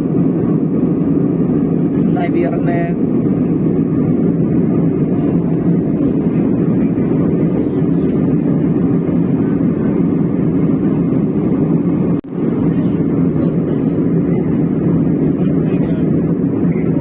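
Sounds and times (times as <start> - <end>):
jet engine cabin drone: 0.0 - 17.0.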